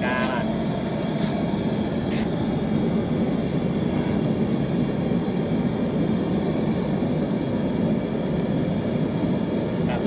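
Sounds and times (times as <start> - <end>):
broth boiling with low roar: 0.0 - 10.0.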